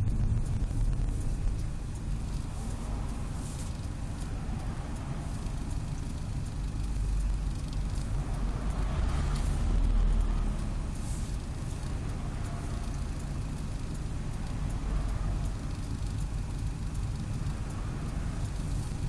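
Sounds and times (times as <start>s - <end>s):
road and drivetrain rumble: 0.0s - 19.0s
faint light ticks: 0.1s - 19.0s.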